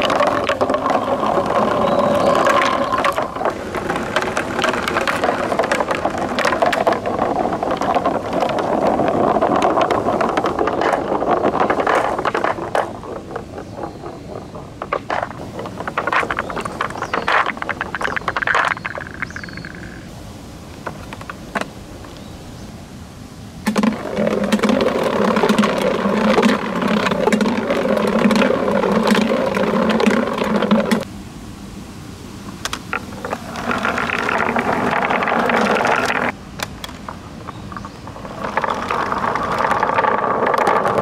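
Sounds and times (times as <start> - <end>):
marble balls rolling and clacking: 0.0 - 20.1, 20.8 - 21.8, 23.6 - 31.1, 32.6 - 41.0
buzzing rattle of balls: 0.0 - 21.8, 23.6 - 31.1, 32.5 - 41.0.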